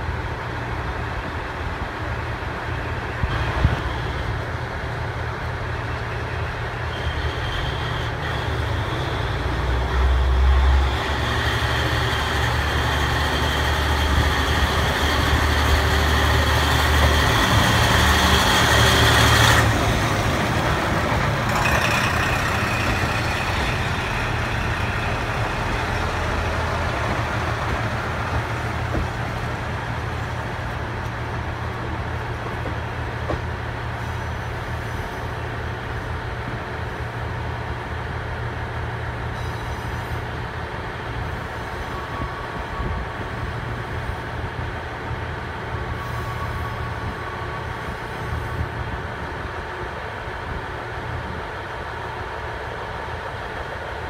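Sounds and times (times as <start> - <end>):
diesel railcar passing: 0.0 - 54.0.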